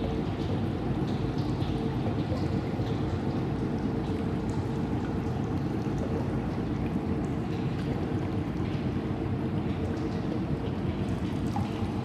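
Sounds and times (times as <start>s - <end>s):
faint steady hum: 0.0s - 12.0s
water drips: 0.0s - 12.0s.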